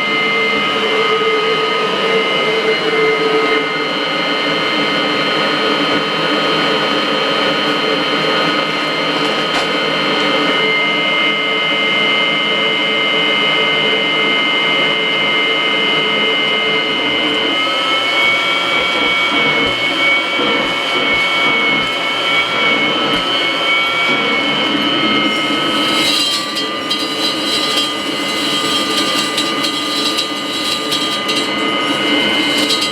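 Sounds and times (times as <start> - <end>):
vacuum cleaner whining: 0.0 - 32.9.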